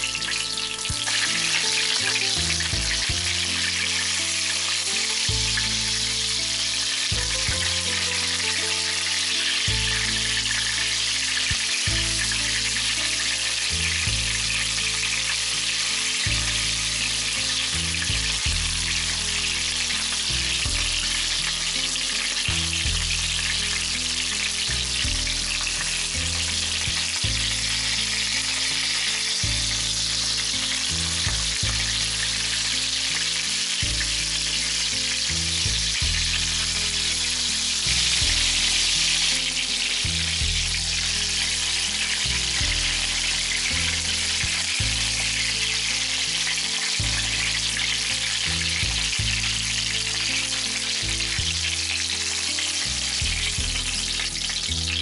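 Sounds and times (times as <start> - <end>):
chicken shallow-frying in oil: 0.0 - 55.0.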